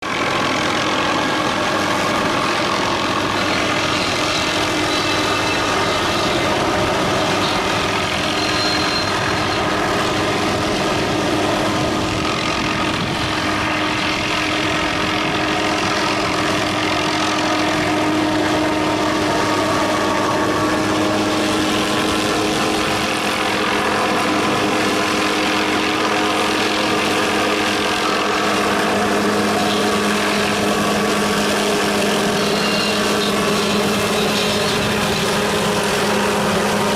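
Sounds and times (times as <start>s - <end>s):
heavy machine engine running: 0.0s - 36.9s.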